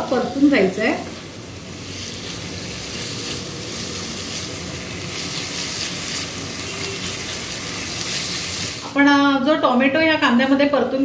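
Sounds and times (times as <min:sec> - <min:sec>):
vegetables sizzling in hot oil: 0:00.0 - 0:09.4.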